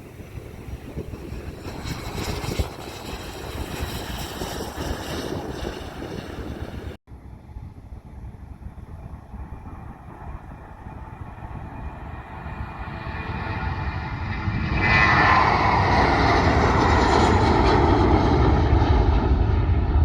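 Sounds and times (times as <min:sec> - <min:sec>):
aircraft engine rumble: 0:00.0 - 0:20.0
wind buffeting microphone: 0:00.0 - 0:20.0.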